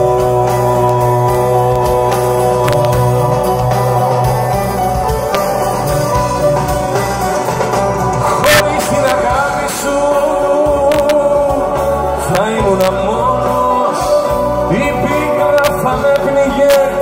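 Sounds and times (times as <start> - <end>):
man singing into microphone: 0.0 - 4.8, 8.2 - 17.0
live band playing: 0.0 - 17.0.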